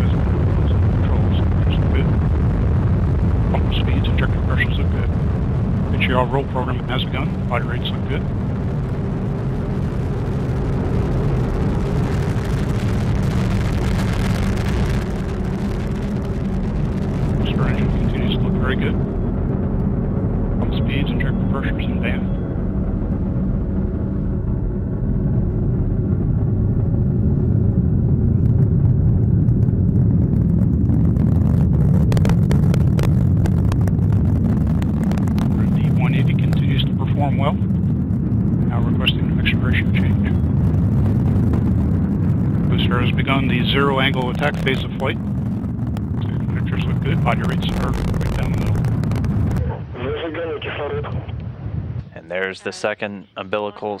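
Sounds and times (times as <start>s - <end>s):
rocket engine rumbling: 0.0s - 54.0s.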